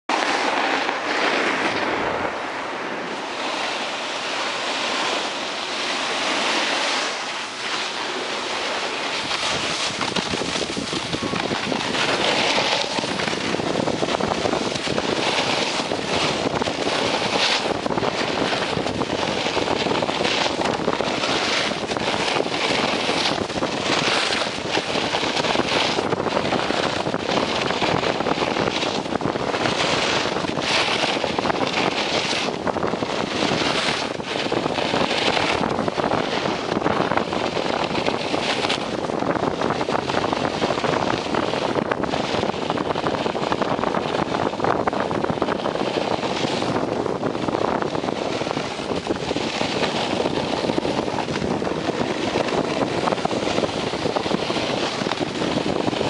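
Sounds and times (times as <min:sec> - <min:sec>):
snowboard scraping on snow: 0:00.1 - 0:56.0
wind buffeting microphone: 0:00.1 - 0:56.0.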